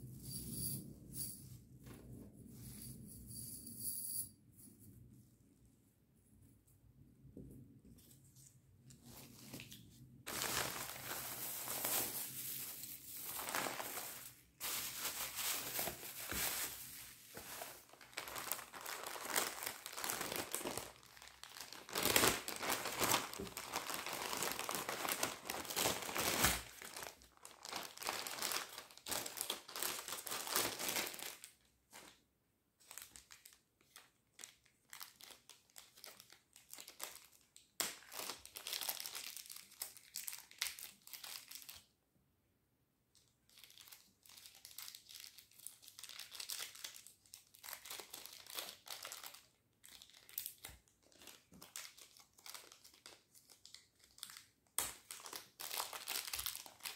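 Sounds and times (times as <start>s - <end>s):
plastic packaging crinkling: 9.0s - 32.2s, 32.8s - 41.8s, 43.5s - 56.9s.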